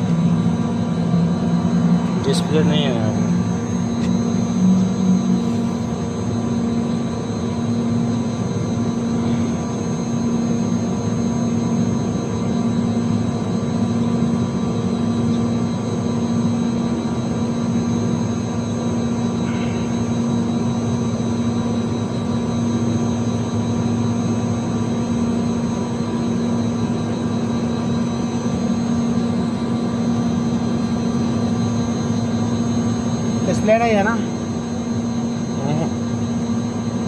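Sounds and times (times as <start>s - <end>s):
chiller droning: 0.0s - 37.0s.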